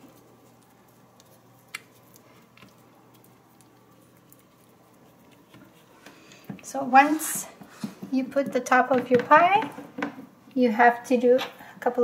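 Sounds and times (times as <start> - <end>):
dough squishing: 0.0 - 10.1.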